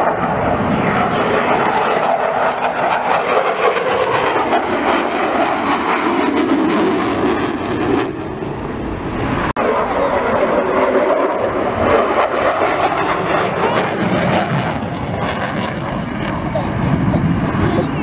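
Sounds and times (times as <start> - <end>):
jet engines roaring past: 0.0 - 18.0.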